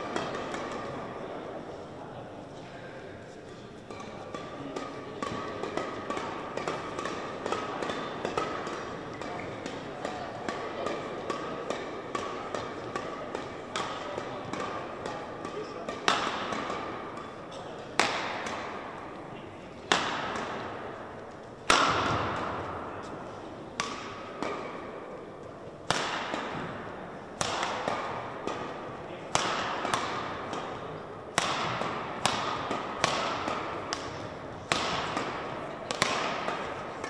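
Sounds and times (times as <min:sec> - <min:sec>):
rackets striking a shuttlecock: 0:00.0 - 0:01.9, 0:03.5 - 0:37.0.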